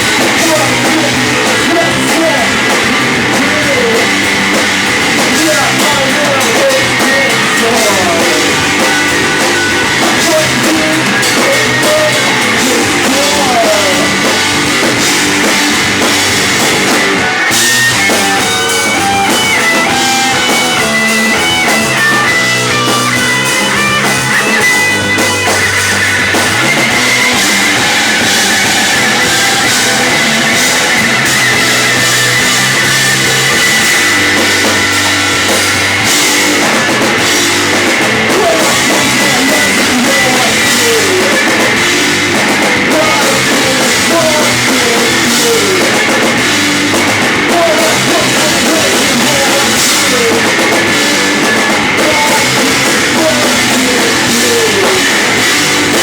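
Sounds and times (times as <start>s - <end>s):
loud rock music: 0.0s - 56.0s.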